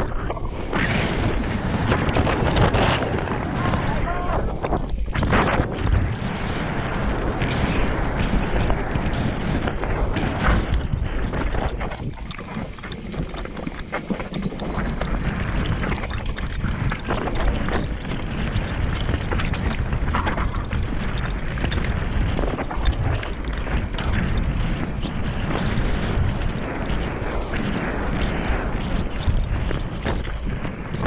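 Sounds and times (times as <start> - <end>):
bike rattling and knocking: 0.0 - 31.0
bike tyres rumbling on dirt: 0.0 - 31.0
wind buffeting microphone: 0.0 - 31.0.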